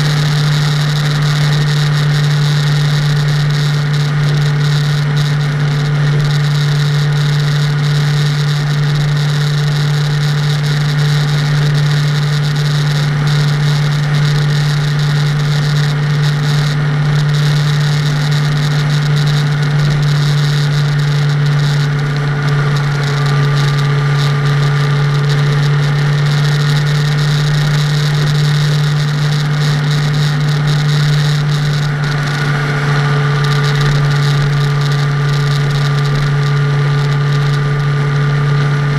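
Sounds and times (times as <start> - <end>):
car driving drone: 0.0 - 38.9
road and wind noise: 0.0 - 38.9.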